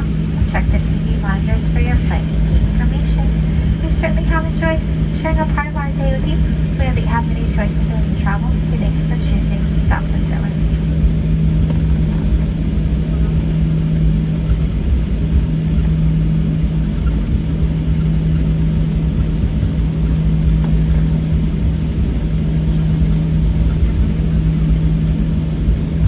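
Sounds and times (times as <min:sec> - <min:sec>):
airplane cabin hum: 0:00.0 - 0:26.0
jet engine rumble: 0:00.0 - 0:26.0.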